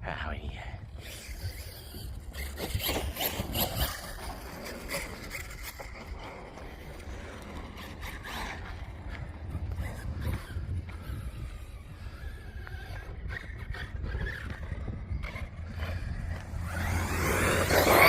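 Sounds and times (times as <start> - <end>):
wind rumble on microphone: 0.0 - 18.0
tyres scraping on dirt: 1.0 - 18.0.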